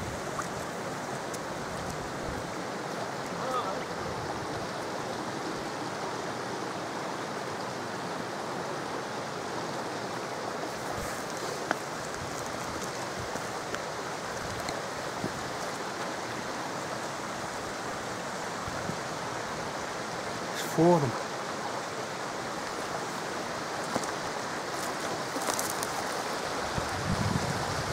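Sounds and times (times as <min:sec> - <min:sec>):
stream running water: 0:00.0 - 0:27.9.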